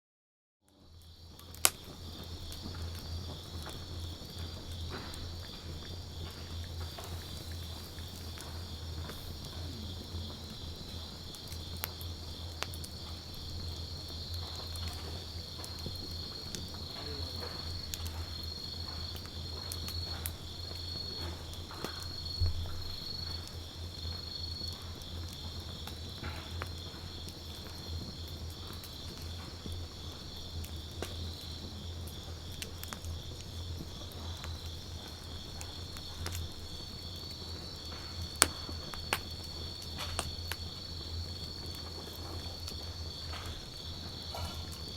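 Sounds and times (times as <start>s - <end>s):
campfire crackling: 0.7s - 44.9s
fire popping: 0.7s - 44.9s
insects trilling: 0.9s - 44.9s.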